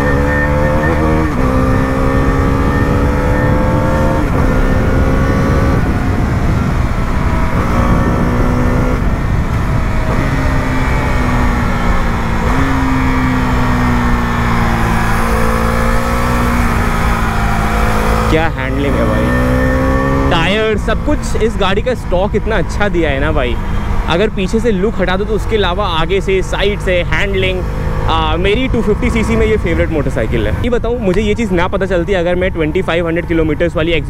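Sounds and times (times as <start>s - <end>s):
motorcycle engine revving: 0.0s - 30.7s.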